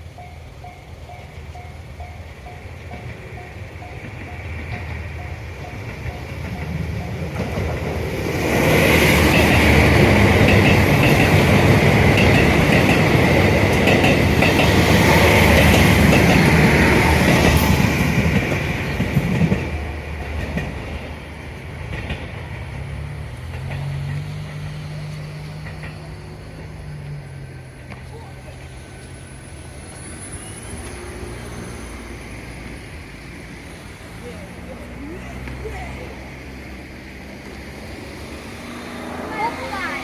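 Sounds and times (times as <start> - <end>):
diesel train passing: 0.0 - 40.0.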